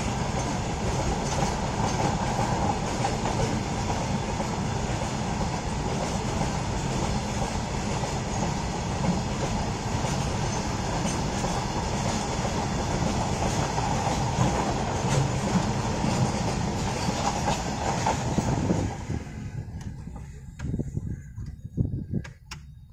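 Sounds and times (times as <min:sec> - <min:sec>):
wheels clacking over rail joints: 0:00.0 - 0:19.0
freight train rumble and rattle: 0:00.0 - 0:22.9.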